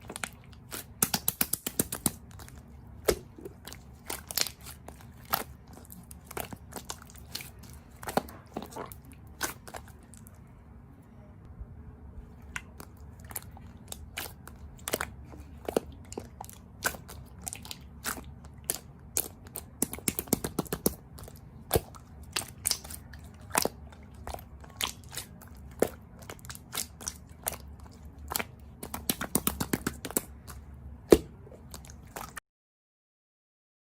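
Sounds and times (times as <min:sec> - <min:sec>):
low steady hum: 0:00.0 - 0:32.4.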